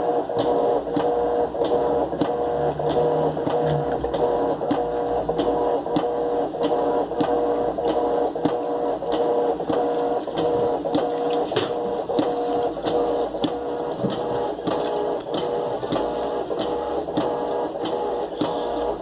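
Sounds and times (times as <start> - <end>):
washing machine motor whine: 0.0 - 19.0
washing machine knocking: 0.3 - 19.0.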